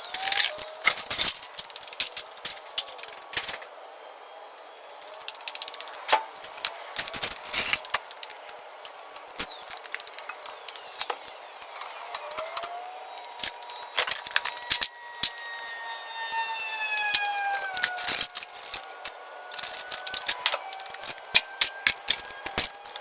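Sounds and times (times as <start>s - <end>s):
thin whining tone sliding down: 0.0s - 23.0s.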